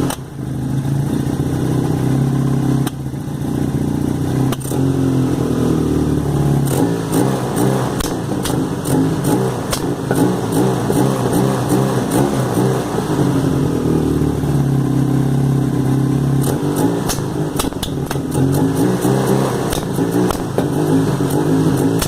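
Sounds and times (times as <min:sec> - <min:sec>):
motorcycle engine running unevenly: 0:00.0 - 0:22.0.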